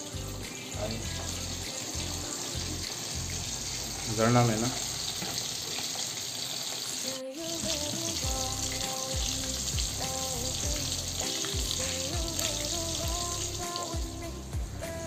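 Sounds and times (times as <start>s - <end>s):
background music with held notes: 0.0s - 4.8s, 7.0s - 15.0s
fish deep-frying in hot oil: 0.0s - 15.0s.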